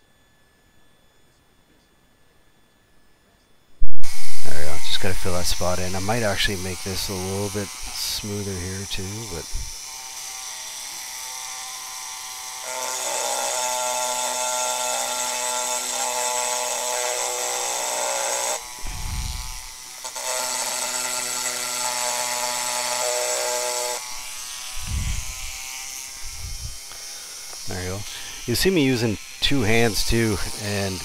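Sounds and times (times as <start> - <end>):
rotary tool whine: 0.0 - 31.0.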